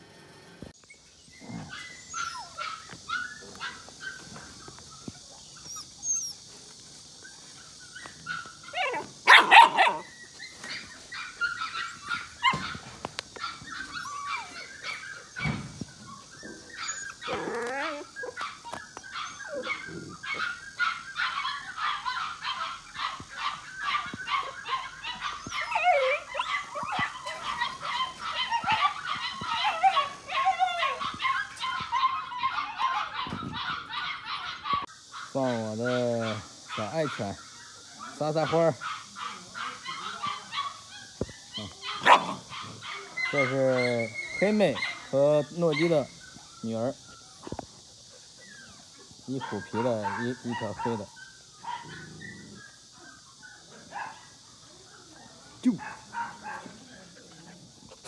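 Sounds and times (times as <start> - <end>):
puppies yipping whining and barking: 0.2 - 35.0, 35.9 - 55.6.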